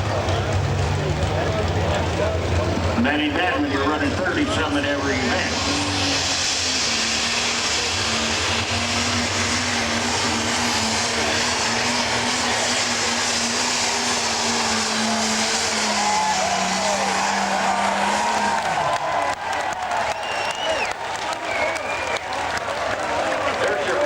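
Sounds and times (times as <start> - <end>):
diesel engine at full throttle: 0.0 - 24.0.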